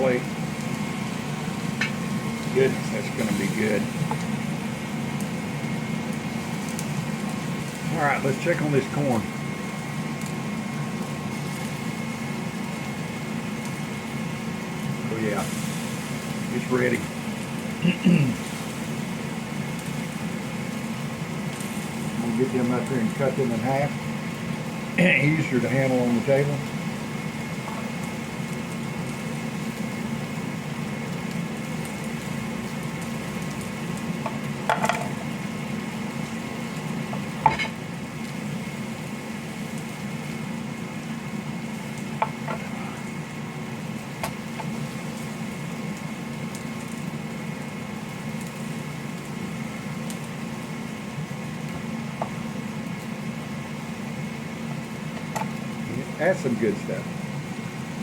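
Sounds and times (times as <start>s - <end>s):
steaks sizzling in a skillet: 0.2s - 58.0s.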